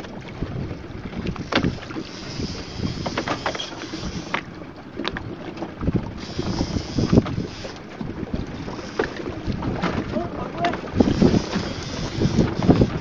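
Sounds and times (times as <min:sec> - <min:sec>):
water sloshing against hull: 0:00.0 - 0:13.0
wind buffeting microphone: 0:00.0 - 0:13.0.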